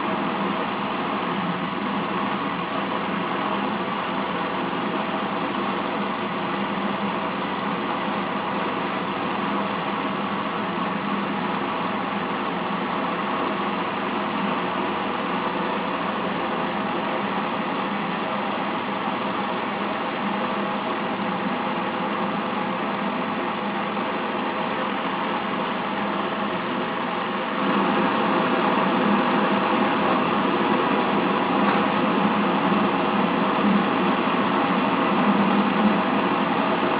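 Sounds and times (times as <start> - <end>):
stirling engine running: 0.0 - 36.9.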